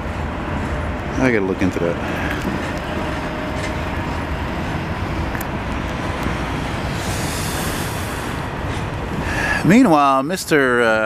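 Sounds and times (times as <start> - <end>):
train wheels on track: 0.0 - 11.0.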